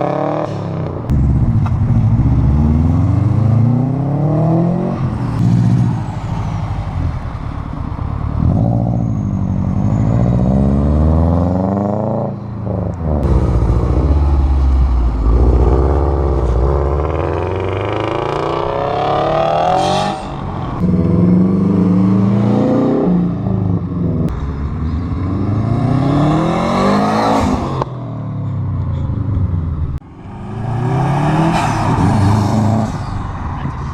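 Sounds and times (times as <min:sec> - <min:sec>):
car engines revving: 0:00.0 - 0:33.9.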